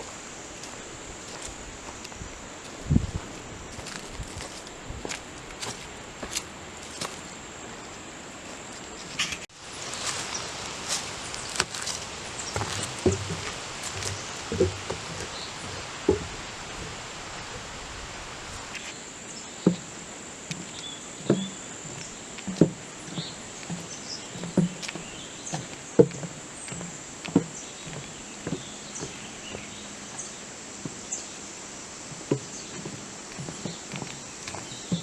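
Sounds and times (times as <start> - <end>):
footsteps on dirt trail: 0.0 - 19.0, 20.5 - 31.4, 32.1 - 35.0
high insect drone: 0.0 - 35.0.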